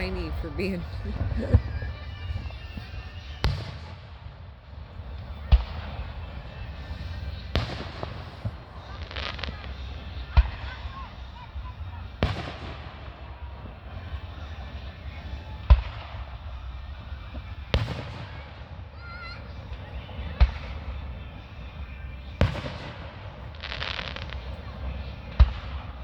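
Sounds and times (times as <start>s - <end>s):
fireworks booming: 0.0s - 26.0s.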